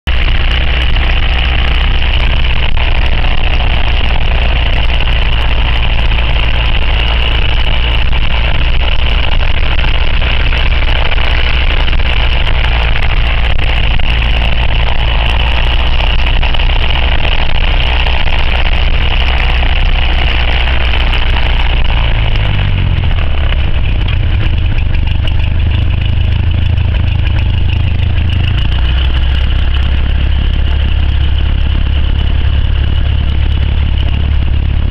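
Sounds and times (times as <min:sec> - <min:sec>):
airplane engine and propeller drone: 0:00.1 - 0:34.9.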